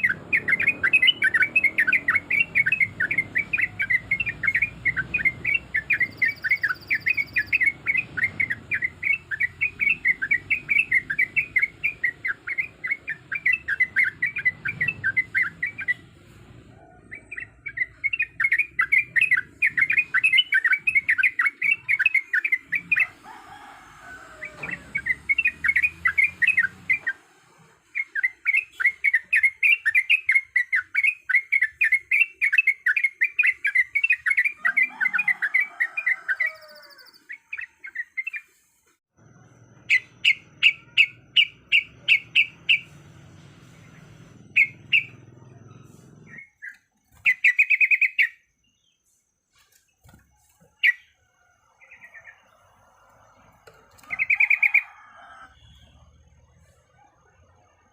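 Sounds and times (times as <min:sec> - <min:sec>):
bulbul singing rolling chatter: 0:00.0 - 0:38.5, 0:39.2 - 0:49.1, 0:49.9 - 0:57.9.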